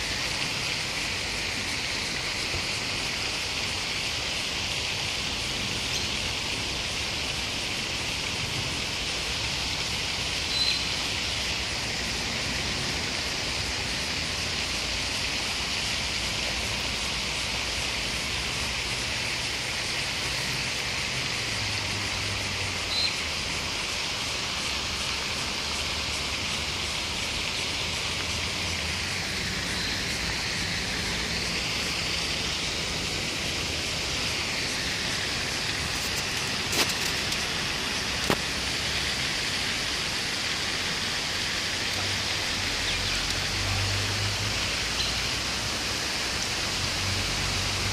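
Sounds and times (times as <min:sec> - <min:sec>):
steady outdoor hiss: 0:00.0 - 0:47.9.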